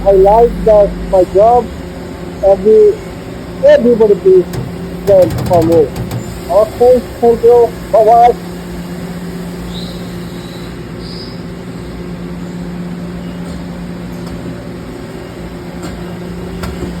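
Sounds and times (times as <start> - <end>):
shop machinery humming: 0.0 - 17.0.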